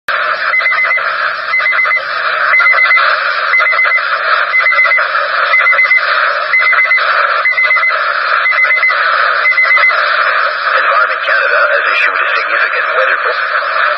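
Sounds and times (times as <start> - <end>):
radio static hiss: 0.1 - 13.9
weather radio alert beeps: 0.1 - 13.9.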